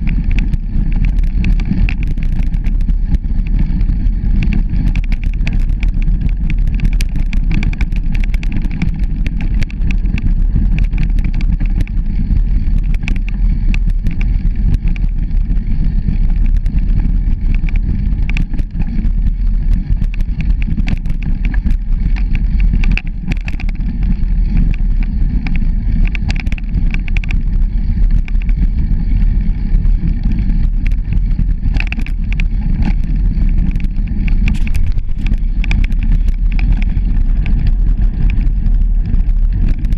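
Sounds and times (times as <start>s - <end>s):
knocks and rattles over bumps: 0.0s - 29.2s, 30.1s - 39.9s
bicycle rolling on dirt path: 0.0s - 39.9s.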